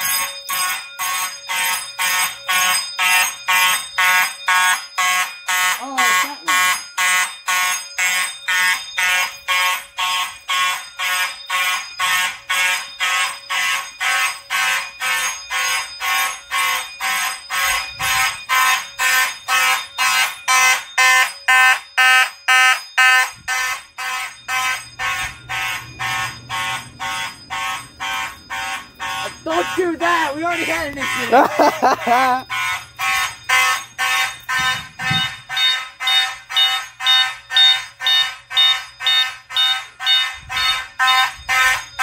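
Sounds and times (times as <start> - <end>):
fire alarm horns buzzing: 0.0 - 42.0.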